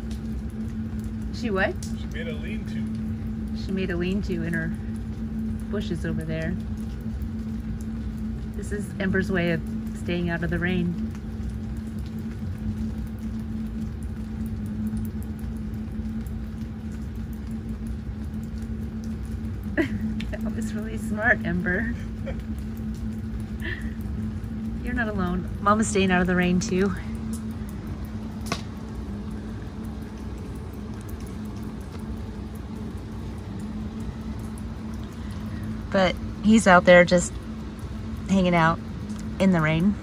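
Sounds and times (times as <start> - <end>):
light rain pattering: 0.0 - 40.0
steady low hum: 0.0 - 40.0.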